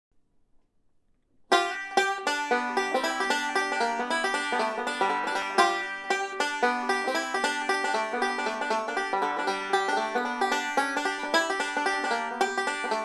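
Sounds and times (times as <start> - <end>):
banjo fingerpicked: 1.5 - 13.0.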